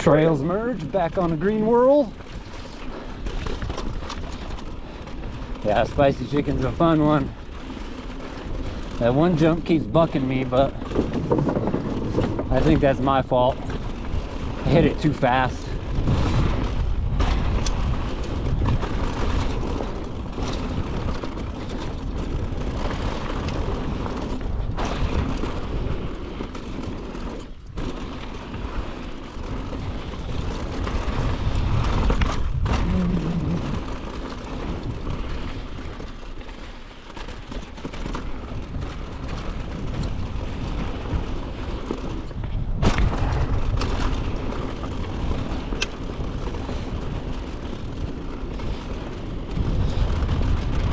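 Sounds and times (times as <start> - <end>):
mountain bike riding noise: 0.0 - 50.9
wind rumble on microphone: 0.0 - 50.9.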